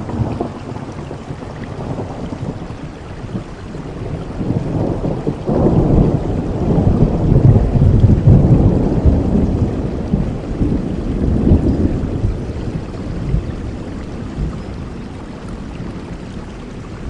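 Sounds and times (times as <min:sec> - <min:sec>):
steady rain: 0:00.0 - 0:17.0
thunder rumble: 0:00.0 - 0:17.0.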